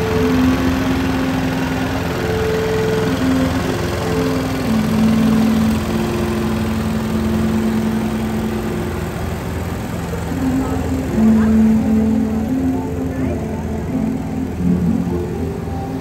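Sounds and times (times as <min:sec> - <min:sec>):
held tones stepping pitch: 0:00.0 - 0:16.0
small engine running: 0:00.0 - 0:16.0.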